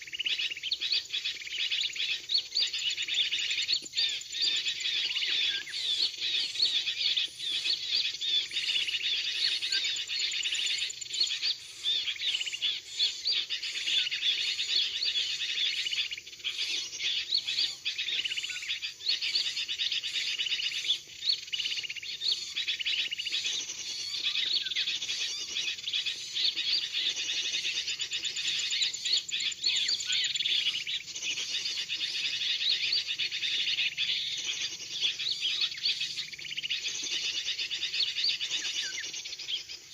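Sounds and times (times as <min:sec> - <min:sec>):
chatter of many small birds: 0:00.0 - 0:39.9.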